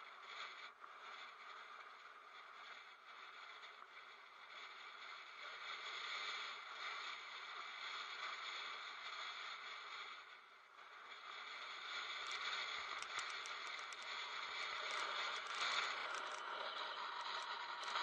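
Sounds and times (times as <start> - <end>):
bicycle wind and tyre noise: 0.0 - 18.0.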